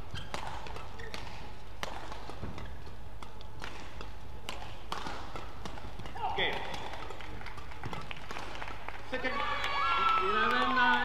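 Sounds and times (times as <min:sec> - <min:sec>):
racquets striking shuttlecock: 0:00.0 - 0:11.0.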